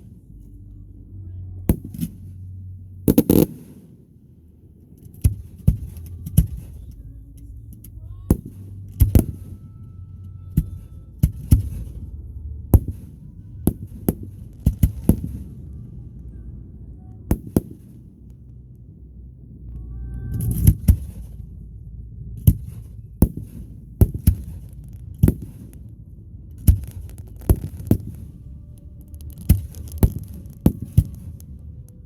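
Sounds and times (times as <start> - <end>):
steady low rumble: 0.0 - 32.0
fireworks bangs: 1.7 - 31.8.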